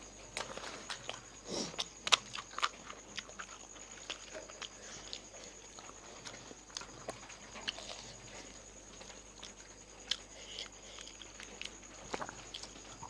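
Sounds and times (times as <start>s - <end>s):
crunchy food chewed wetly: 0.0s - 13.0s.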